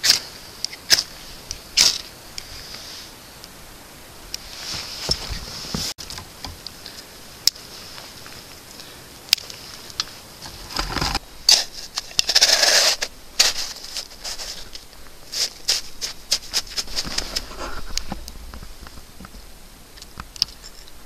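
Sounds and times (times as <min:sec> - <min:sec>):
camping gear clicks and rustles: 0:00.0 - 0:03.0, 0:04.4 - 0:21.0.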